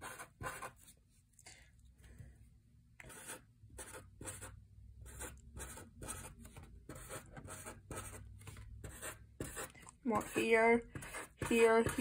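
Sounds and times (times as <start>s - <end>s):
marker rubbing on paper: 0.0s - 1.0s, 3.0s - 12.0s.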